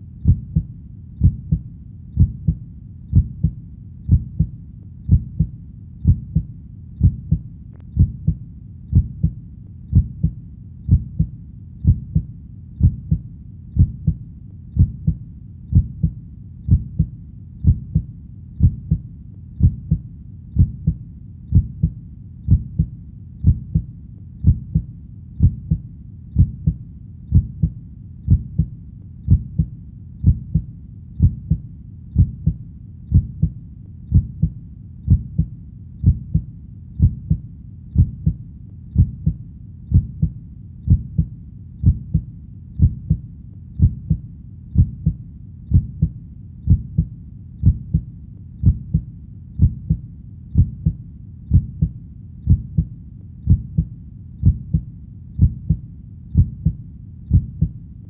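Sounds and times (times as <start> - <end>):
heartbeat thumps: 0.0 - 57.8.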